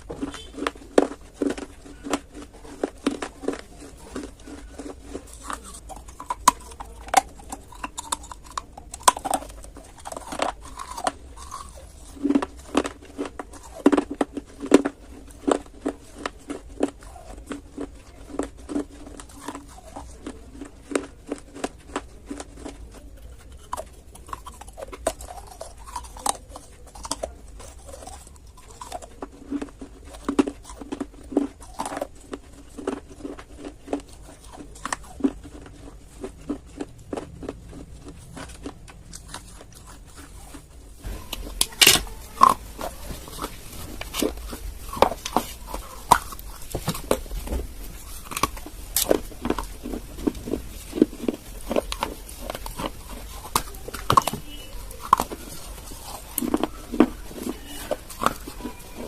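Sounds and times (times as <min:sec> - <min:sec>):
clay being chewed with crunches: 0:00.0 - 0:59.0.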